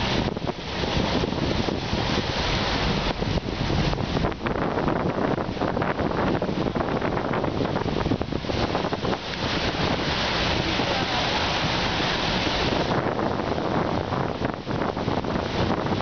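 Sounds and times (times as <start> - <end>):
floodwater rushing and splashing: 0.0 - 16.0
wind buffeting microphone: 0.0 - 16.0.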